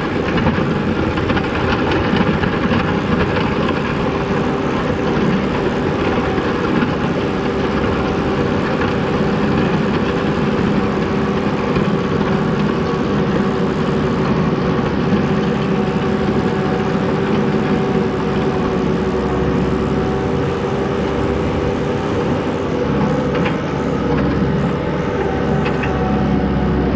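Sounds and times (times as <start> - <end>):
skid steer engine at high revs: 0.0 - 26.9.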